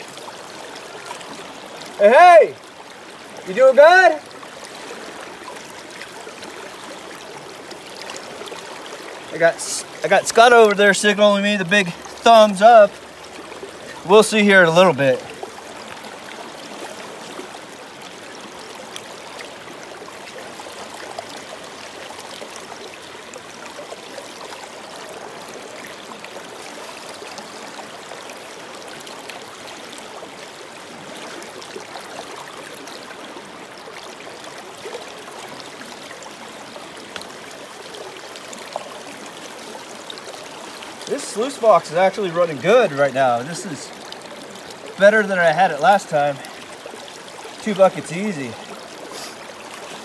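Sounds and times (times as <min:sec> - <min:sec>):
water rushing through sluice box: 0:00.0 - 0:50.0.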